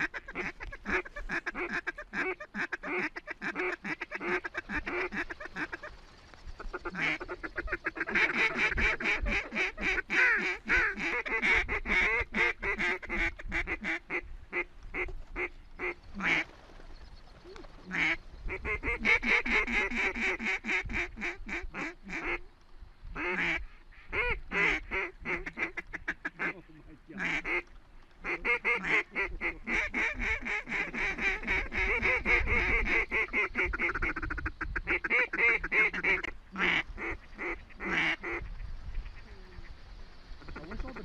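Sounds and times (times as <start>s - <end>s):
duck quacking: 0.0s - 6.0s, 6.7s - 16.4s, 17.9s - 22.4s, 23.2s - 39.8s.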